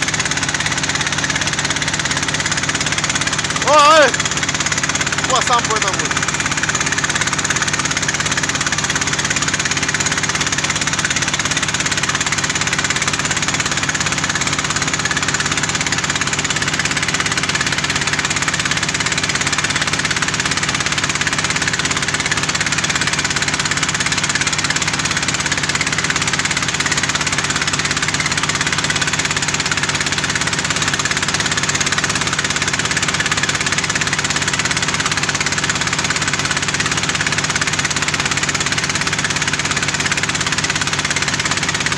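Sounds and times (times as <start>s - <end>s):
small engine running steadily: 0.0s - 41.9s.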